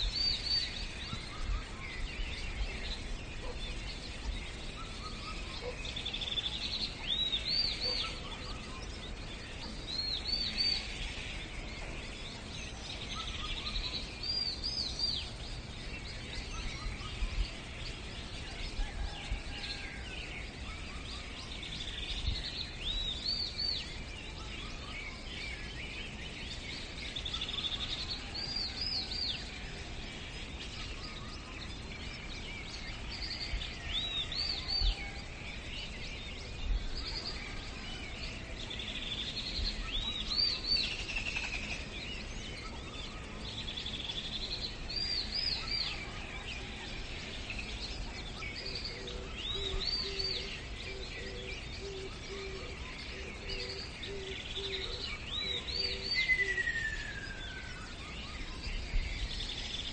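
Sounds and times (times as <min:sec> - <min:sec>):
faint bird chirps: 0:00.0 - 0:59.9
steady outdoor hiss: 0:00.0 - 0:59.9.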